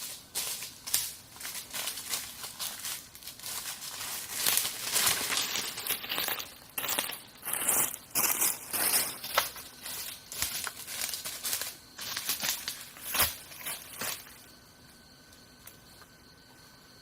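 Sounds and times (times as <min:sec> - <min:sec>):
dry vegetation rustling: 0:00.0 - 0:14.5.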